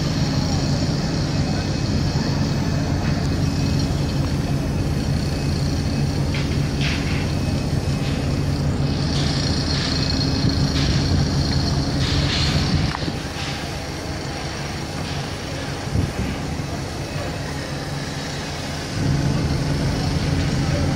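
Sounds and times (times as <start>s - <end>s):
crane diesel engine droning: 0.0s - 20.9s.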